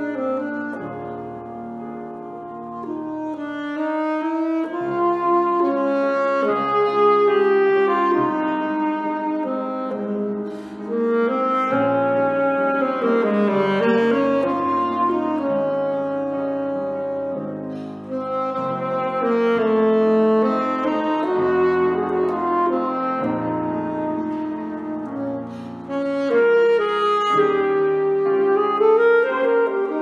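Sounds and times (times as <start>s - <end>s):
alto saxophone melody: 0.0s - 30.0s
piano accompaniment: 0.0s - 30.0s.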